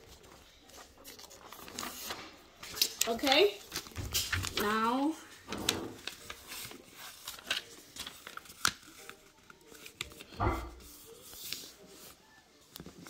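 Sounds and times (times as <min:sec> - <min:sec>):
paper rustling and creasing: 0:00.0 - 0:13.0.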